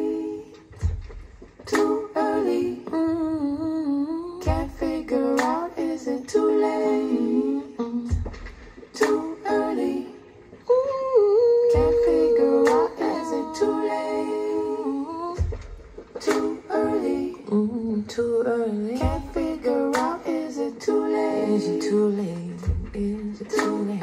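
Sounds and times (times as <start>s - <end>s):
wordless vocal line: 0.0s - 24.0s.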